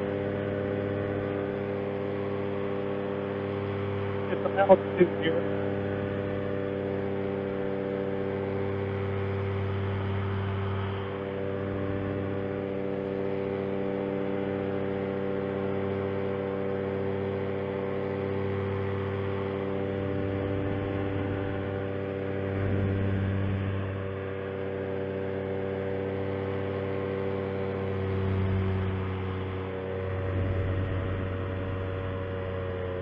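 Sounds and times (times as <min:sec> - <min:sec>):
paramotor engine droning: 0:00.0 - 0:33.0.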